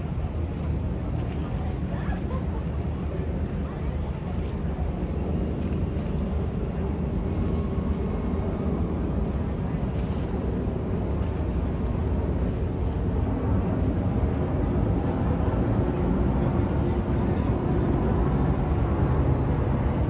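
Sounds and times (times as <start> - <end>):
faint voices: 0.0 - 20.0
low rumble of city ambience: 0.0 - 20.0.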